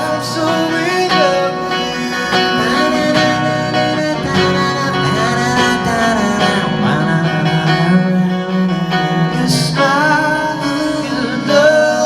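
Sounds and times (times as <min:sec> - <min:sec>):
live pop-rock band playing: 0:00.0 - 0:12.0
strummed guitar: 0:00.0 - 0:12.0.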